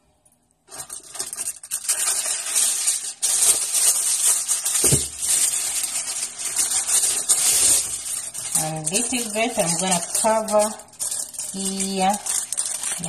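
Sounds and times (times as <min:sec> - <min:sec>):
aluminium foil crinkling: 0:00.7 - 0:13.0.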